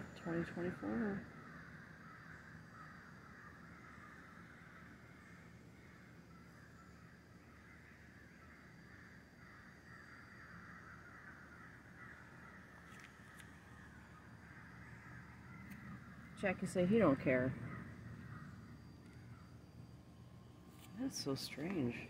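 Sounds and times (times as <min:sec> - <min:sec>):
chorus of calling animals: 0:00.0 - 0:20.1.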